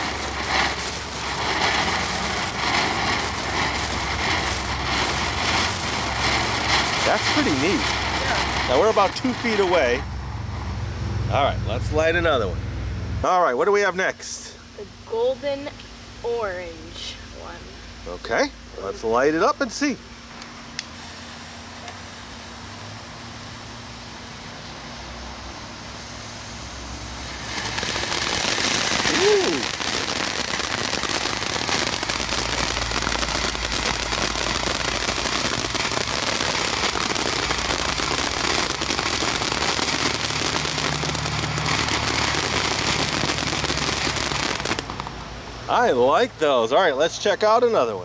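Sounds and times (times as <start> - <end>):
firework fountain hissing and crackling: 0.0 - 12.6, 13.2 - 48.0.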